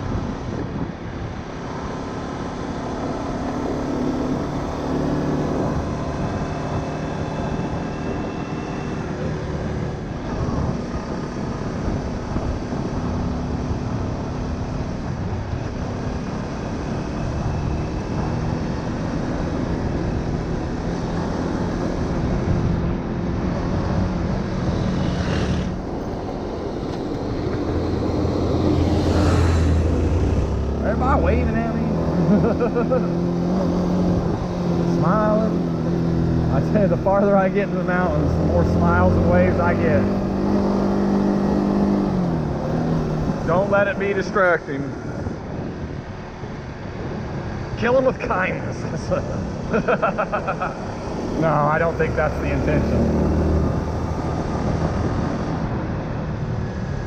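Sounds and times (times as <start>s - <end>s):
motorbike engine cruising: 0.0s - 57.0s
wind rumbling on microphone: 0.0s - 57.0s.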